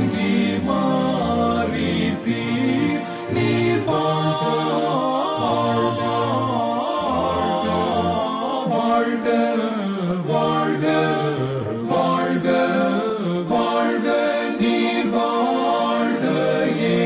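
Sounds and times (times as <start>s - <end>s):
hymn sung in slow notes: 0.0s - 17.0s.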